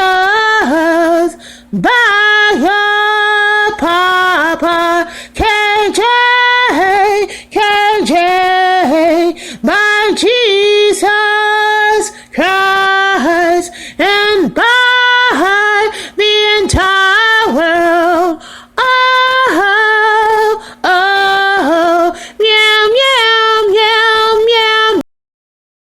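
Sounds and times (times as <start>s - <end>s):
woman singing solo: 0.0s - 25.0s.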